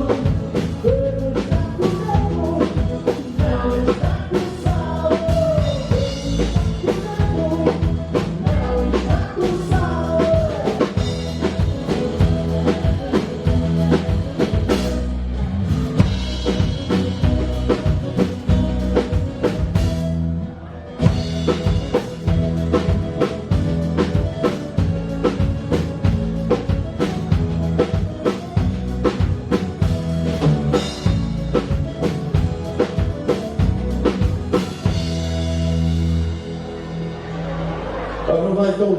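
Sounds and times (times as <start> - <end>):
drum kit beat with rimshots: 0.0 - 20.4, 21.0 - 38.0
live band playing: 0.0 - 38.9.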